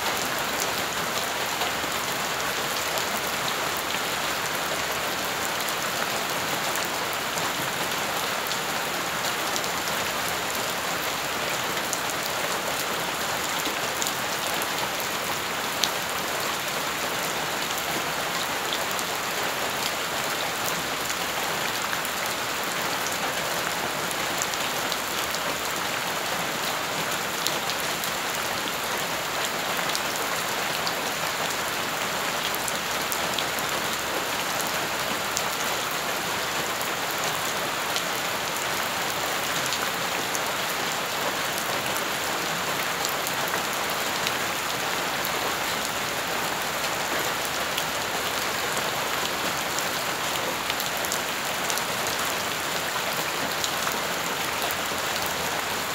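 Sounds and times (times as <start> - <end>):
rain splashing on wet ground: 0.0 - 55.9.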